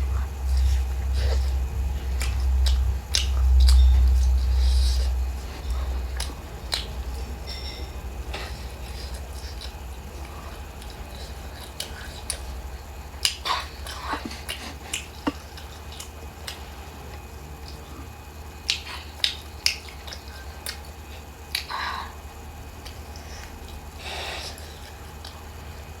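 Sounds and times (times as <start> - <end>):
chewing with mouth clicks: 0.0 - 26.0
low steady hum: 0.0 - 26.0.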